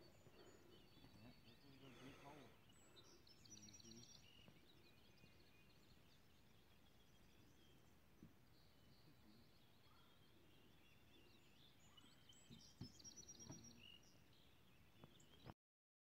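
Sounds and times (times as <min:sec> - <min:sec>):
distant birds chirping: 0:00.0 - 0:15.6.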